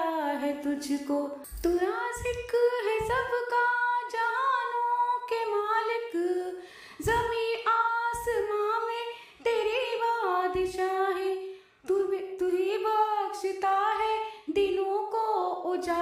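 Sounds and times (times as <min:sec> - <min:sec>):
woman singing a hymn: 0:00.0 - 0:16.0.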